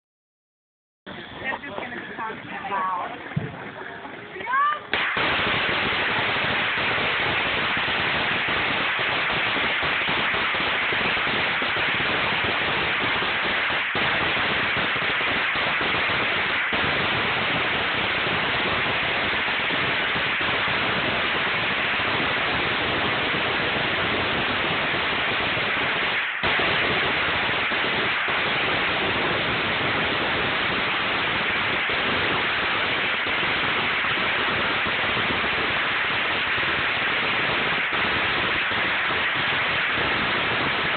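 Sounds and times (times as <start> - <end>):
firecrackers crackling: 1.1 - 40.9.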